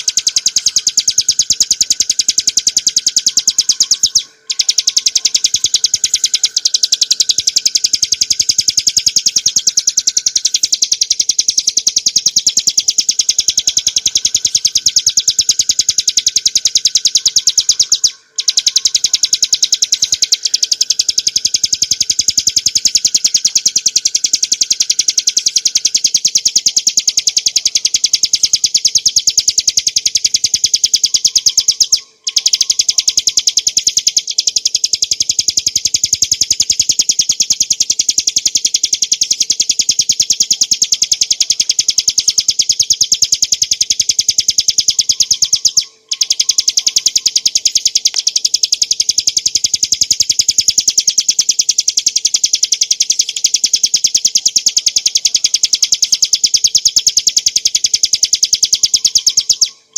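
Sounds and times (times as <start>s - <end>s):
prinia singing rattling notes: 0.0s - 59.9s.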